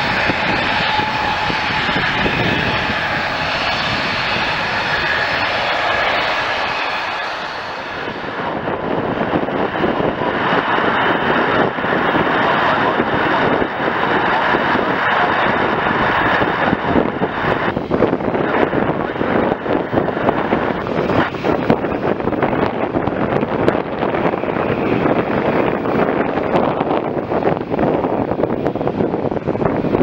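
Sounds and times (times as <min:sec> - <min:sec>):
jet engines rushing: 0:00.0 - 0:30.0
wind buffeting microphone: 0:00.0 - 0:30.0.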